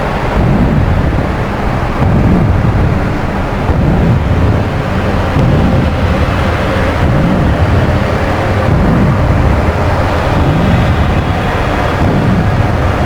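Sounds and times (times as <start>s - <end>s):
dark ambient drone music: 0.0s - 13.0s.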